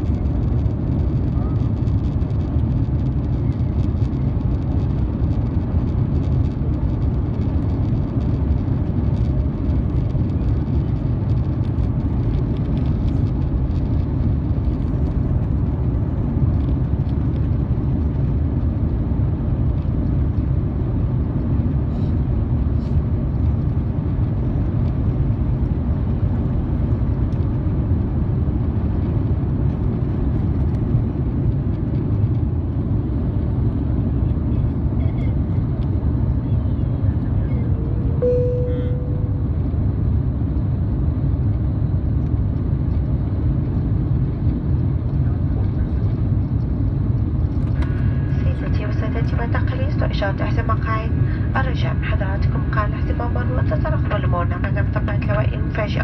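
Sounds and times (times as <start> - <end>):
airplane cabin low rumble: 0.0 - 56.0.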